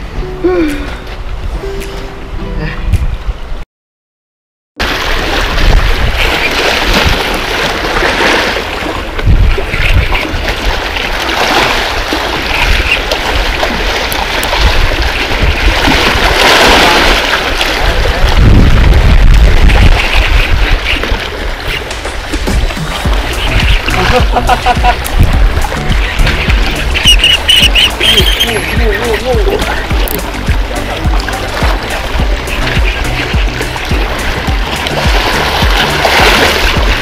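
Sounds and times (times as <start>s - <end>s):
wind buffeting microphone: 2.7s - 3.6s, 4.9s - 37.0s
waves washing against rocks: 4.8s - 37.0s.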